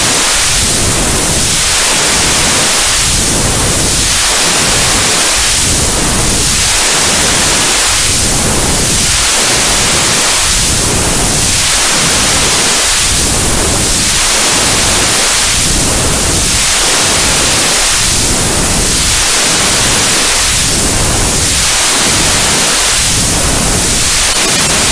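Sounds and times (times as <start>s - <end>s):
sweeping white noise: 0.0s - 24.9s.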